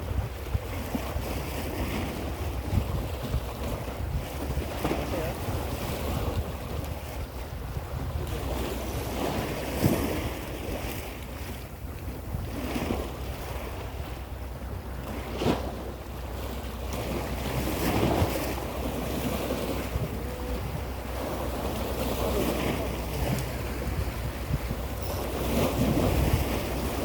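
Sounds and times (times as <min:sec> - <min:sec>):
sea waves splashing: 0:00.0 - 0:27.0
wind buffeting microphone: 0:00.0 - 0:27.0.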